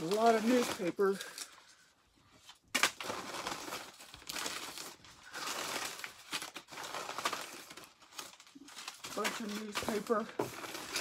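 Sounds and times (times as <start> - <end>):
newspaper rustling and crumpling: 0.0 - 11.0.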